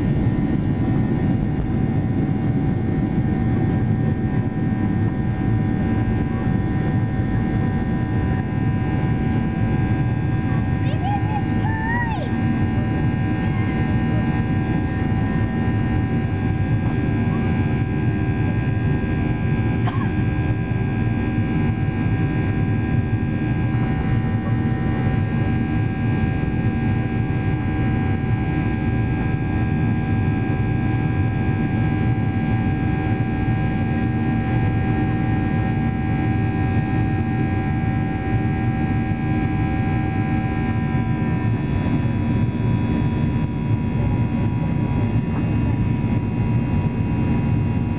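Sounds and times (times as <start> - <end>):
jet engine cabin rumble: 0.0 - 47.9
turbofan whining tones: 0.0 - 47.9.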